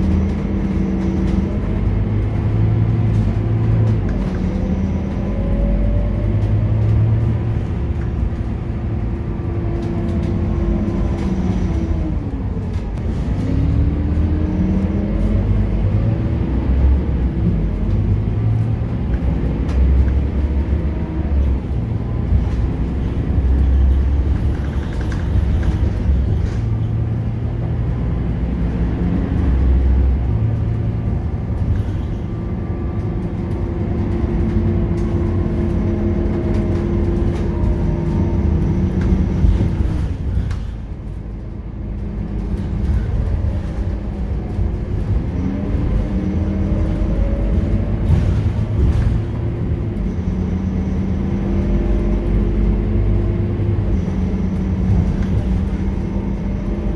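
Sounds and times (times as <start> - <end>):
bus engine: 0.0 - 56.9.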